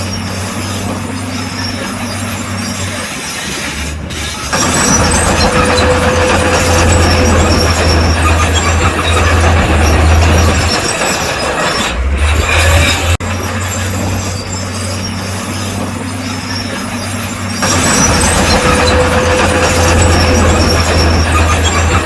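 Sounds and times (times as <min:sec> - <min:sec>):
bulldozer engine drone: 0:00.0 - 0:22.0
steel tracks clanking: 0:00.0 - 0:22.0.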